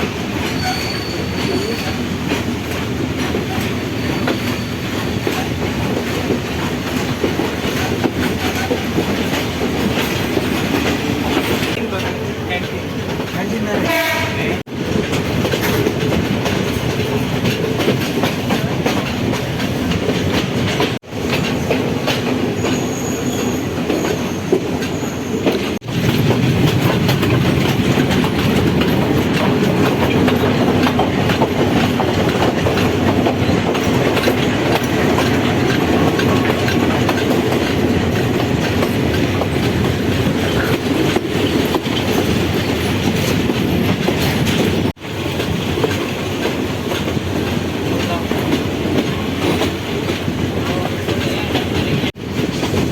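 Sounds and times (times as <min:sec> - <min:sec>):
wheels clacking over rail joints: 0:00.0 - 0:13.9, 0:14.7 - 0:52.9
train rumbling on track: 0:00.0 - 0:52.9.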